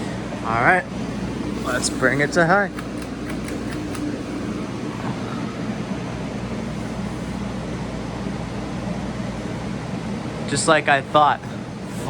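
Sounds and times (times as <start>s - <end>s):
ceiling fan air whoosh: 0.0s - 12.0s.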